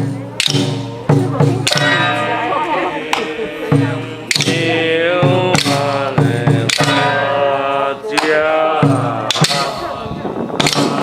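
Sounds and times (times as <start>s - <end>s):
sharp percussion strike: 0.0s - 7.4s, 8.2s - 9.8s
ritual chanting: 0.0s - 11.0s.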